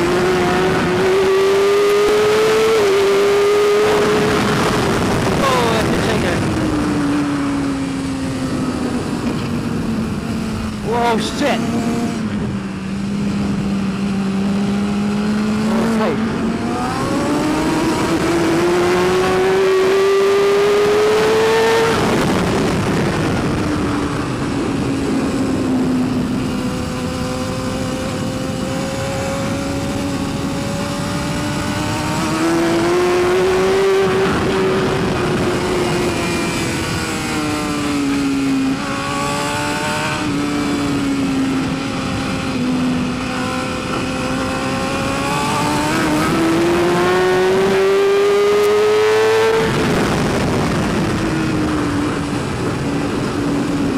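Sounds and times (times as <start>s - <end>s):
motorcycle engine racing: 0.0s - 53.9s.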